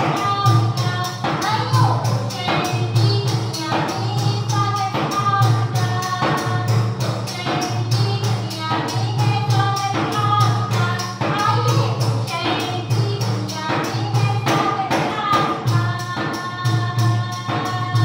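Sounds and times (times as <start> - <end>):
fast percussion beat: 0.0 - 18.0.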